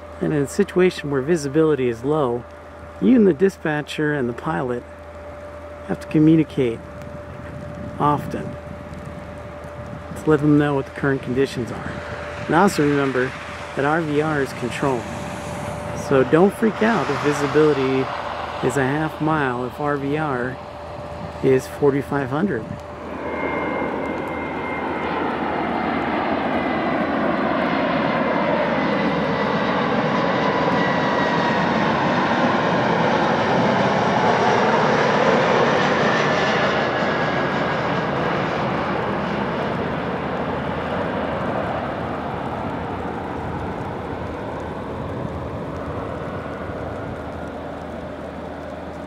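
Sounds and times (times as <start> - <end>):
jet engines passing overhead: 0.0 - 49.0.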